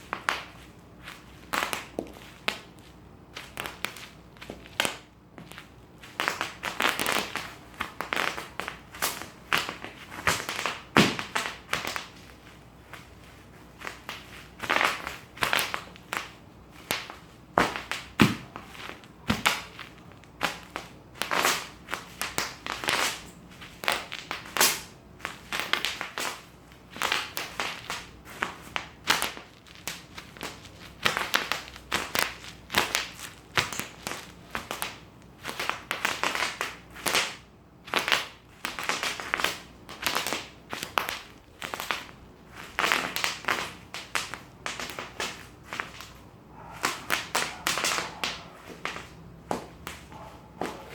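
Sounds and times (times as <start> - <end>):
bubble wrap popping: 0.0 - 46.2
plastic crinkling: 0.0 - 50.9.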